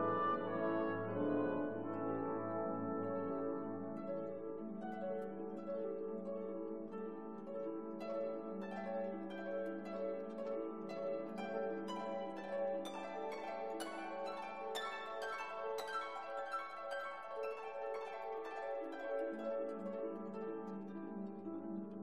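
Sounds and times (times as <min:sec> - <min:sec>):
plucked-string instrumental music: 0:00.0 - 0:22.0.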